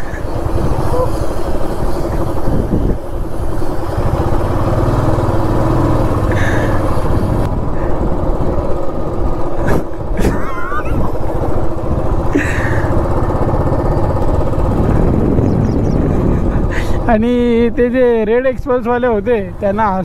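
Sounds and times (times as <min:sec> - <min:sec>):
motorcycle engine rumble: 0:00.0 - 0:19.8.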